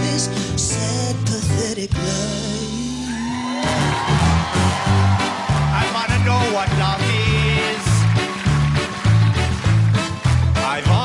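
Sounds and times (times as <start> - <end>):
upbeat beer-hall band music: 0.0 - 11.0.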